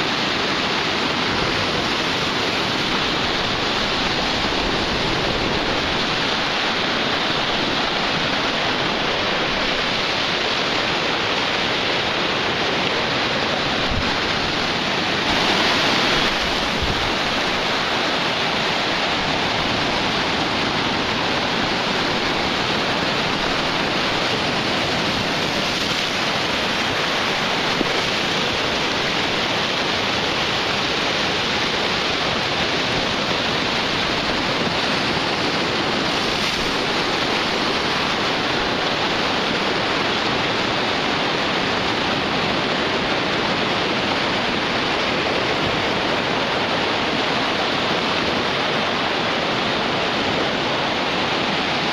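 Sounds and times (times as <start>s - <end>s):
ocean surf washing onto beach: 0.0s - 51.9s.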